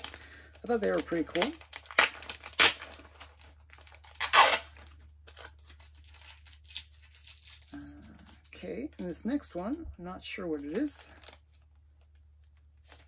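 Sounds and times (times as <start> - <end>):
packaging rustling: 0.0 - 9.8, 10.6 - 13.0.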